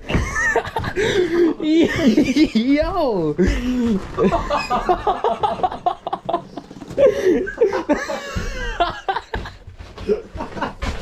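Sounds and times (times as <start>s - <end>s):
men laughing: 0.0s - 2.8s, 3.4s - 11.0s.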